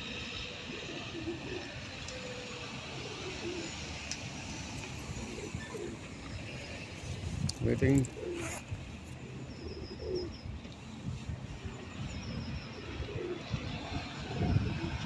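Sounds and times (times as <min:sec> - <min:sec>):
pigeons cooing: 0:00.0 - 0:04.0, 0:04.8 - 0:10.4, 0:11.6 - 0:15.0
traffic rumble: 0:00.0 - 0:15.0.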